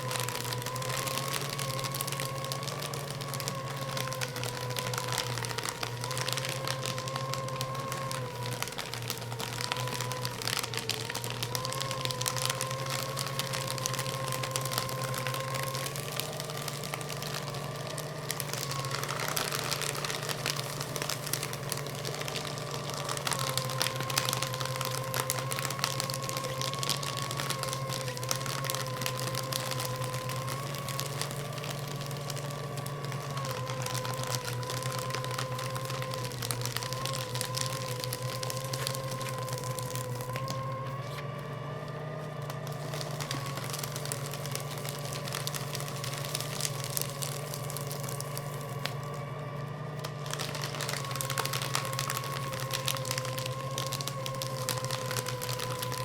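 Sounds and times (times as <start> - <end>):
paper crackling in cutters: 0.0 - 56.0
paper shredder motor whine: 0.0 - 56.0.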